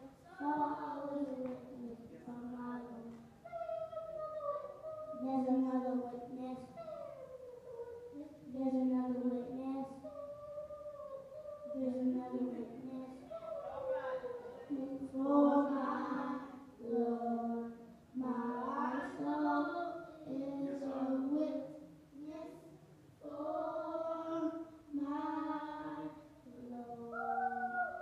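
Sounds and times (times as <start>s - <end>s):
boys singing gospel song: 0.0s - 28.0s.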